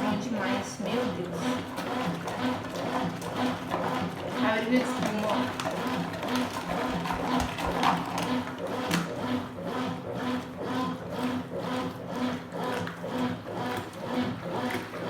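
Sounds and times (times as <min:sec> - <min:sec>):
washing machine agitating: 0:00.0 - 0:15.0.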